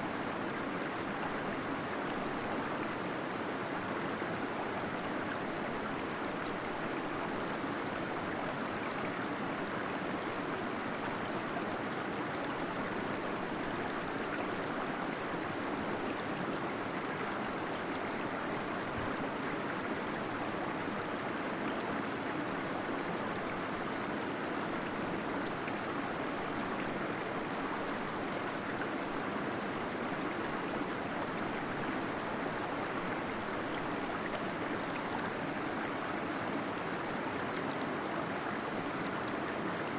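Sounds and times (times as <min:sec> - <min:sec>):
small waterfall flowing: 0:00.0 - 0:39.9.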